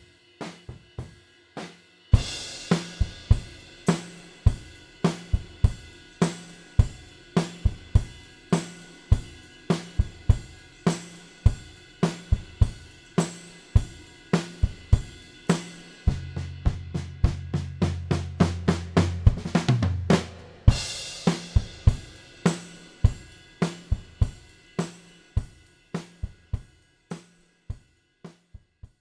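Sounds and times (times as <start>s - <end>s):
drum kit playing rock beat: 0.0s - 29.0s.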